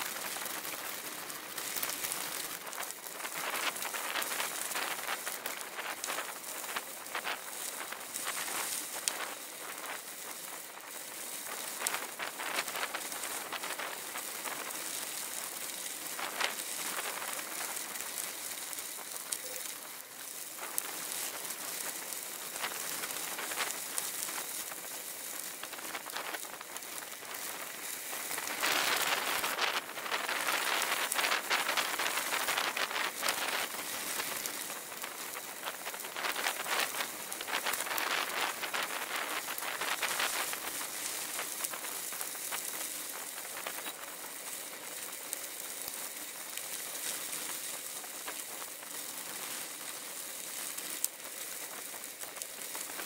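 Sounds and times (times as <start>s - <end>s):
bicycle tyres rolling over gravel: 0.0s - 53.0s.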